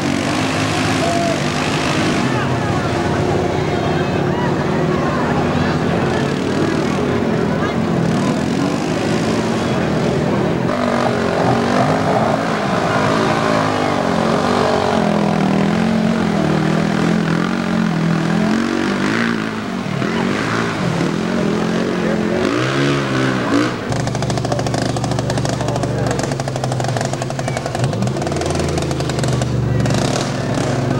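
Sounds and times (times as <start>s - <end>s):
quad engines revving: 0.0s - 30.9s.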